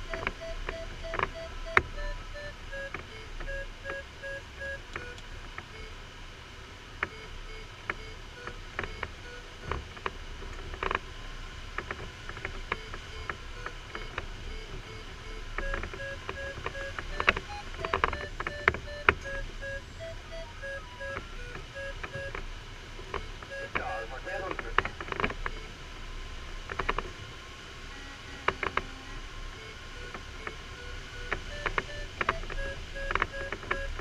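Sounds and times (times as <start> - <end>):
variometer beeping: 0.0 - 6.0, 7.0 - 10.1, 11.8 - 25.7, 29.6 - 34.0.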